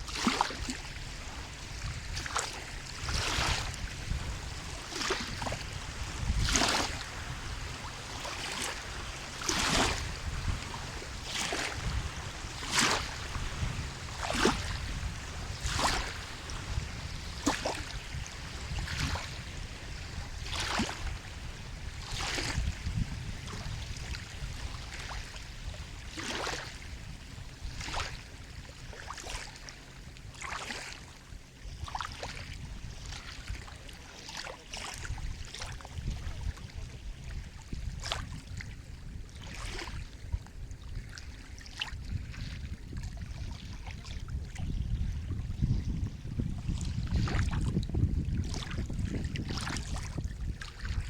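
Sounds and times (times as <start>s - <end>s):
small waves lapping and splashing: 0.0s - 51.0s.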